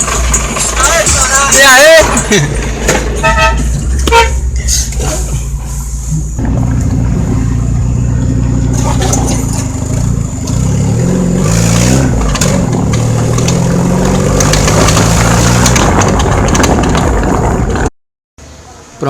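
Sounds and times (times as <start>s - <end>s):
car engine running: 0.0s - 17.9s.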